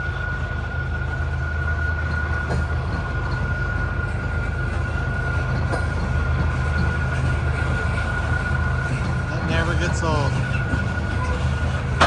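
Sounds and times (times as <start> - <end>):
high-pitched wheel squeal: 0.0 - 12.0
train rumbling past: 0.0 - 12.0.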